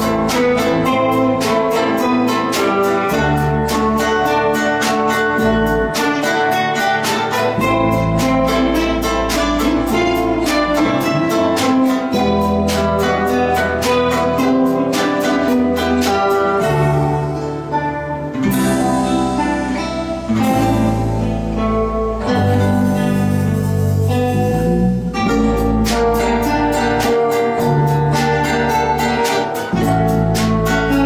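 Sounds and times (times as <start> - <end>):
guitar ensemble playing: 0.0 - 31.0.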